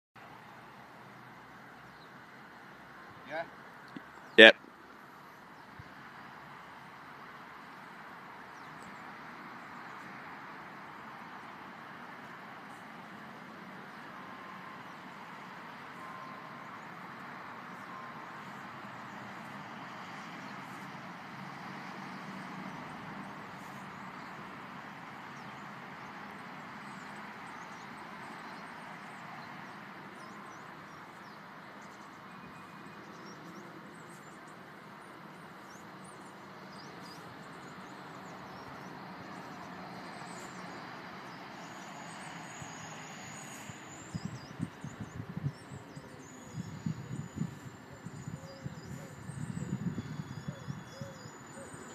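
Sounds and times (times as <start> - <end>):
distant road traffic hum: 0.2 - 51.9.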